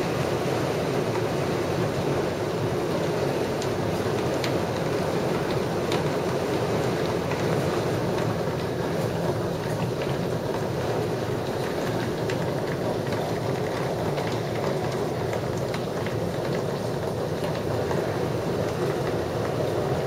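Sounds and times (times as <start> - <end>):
heavy rain on plants and deck: 0.0 - 20.0
raindrops ticking: 3.6 - 20.0.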